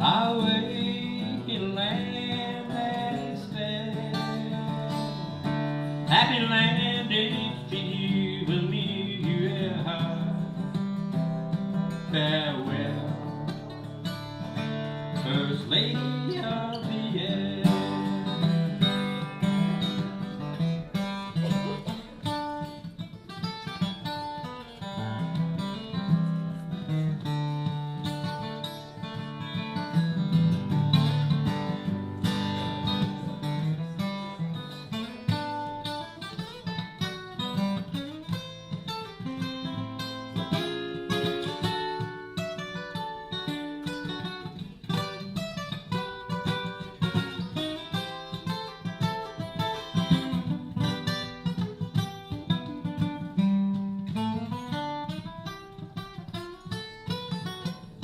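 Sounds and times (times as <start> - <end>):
acoustic guitar plucking and strumming: 0.0 - 58.0.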